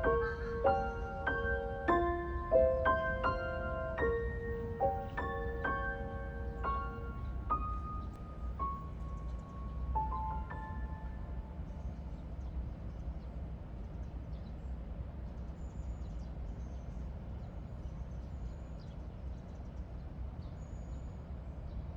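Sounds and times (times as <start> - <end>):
small birds chirping: 0.0 - 21.8
low background rumble: 0.0 - 21.9.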